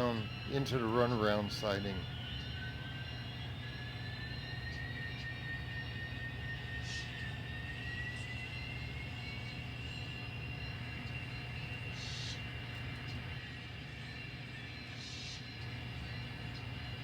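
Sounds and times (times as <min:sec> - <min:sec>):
model train motor whine: 0:00.0 - 0:17.0.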